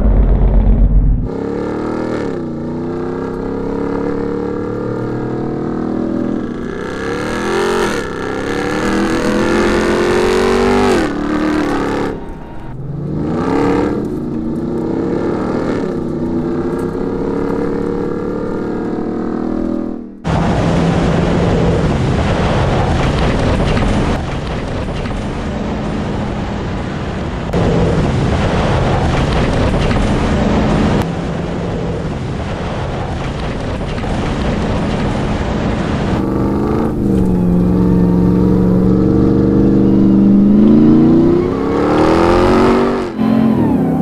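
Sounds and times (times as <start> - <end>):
engine running hard: 0.0 - 24.2, 27.5 - 44.0
tyre and dirt noise: 0.0 - 44.0.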